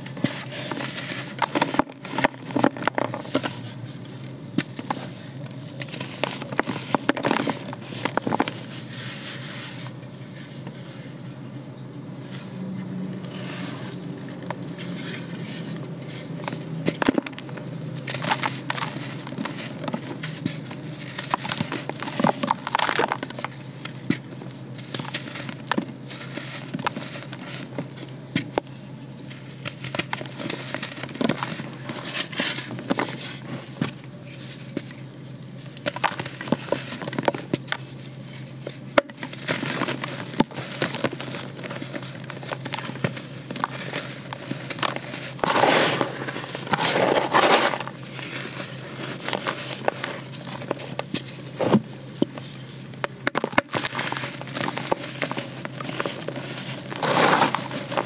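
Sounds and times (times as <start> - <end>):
dirt clods crunching by hand: 0.0 - 11.2, 13.2 - 58.0.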